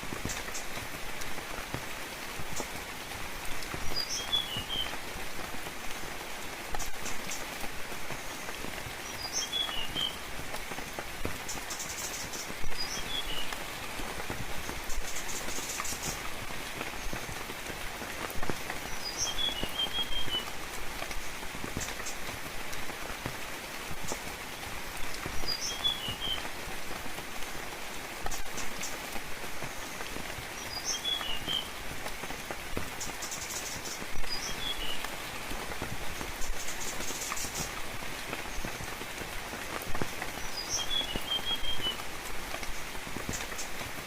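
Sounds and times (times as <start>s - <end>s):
raindrops ticking: 0.0s - 44.0s
steady rainfall hissing: 0.0s - 44.0s.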